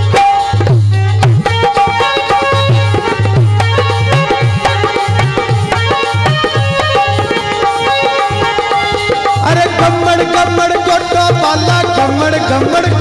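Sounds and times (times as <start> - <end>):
hand drum rhythm: 0.0 - 13.0
held melodic tones: 1.5 - 13.0.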